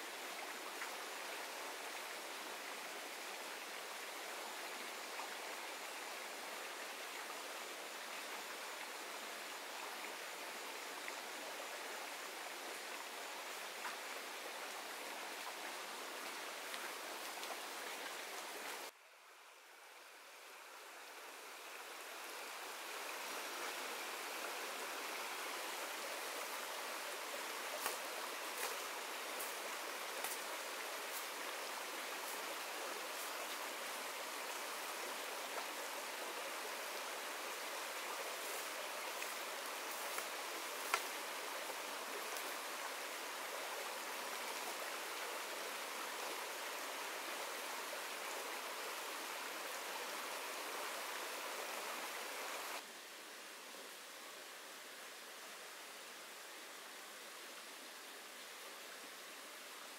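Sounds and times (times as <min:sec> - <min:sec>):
stream running over stones: 0:00.0 - 0:19.0, 0:19.6 - 0:59.9.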